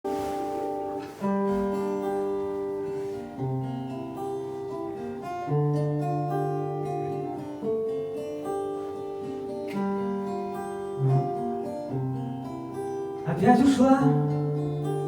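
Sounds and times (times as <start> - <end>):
acoustic guitar chords: 0.1 - 15.0.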